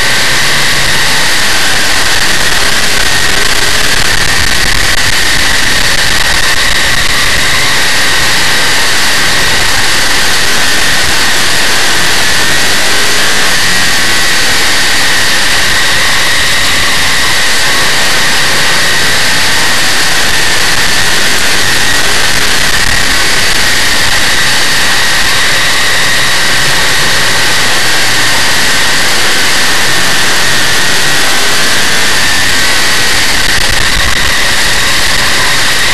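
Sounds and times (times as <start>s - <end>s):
race car engine roaring: 0.0s - 35.9s.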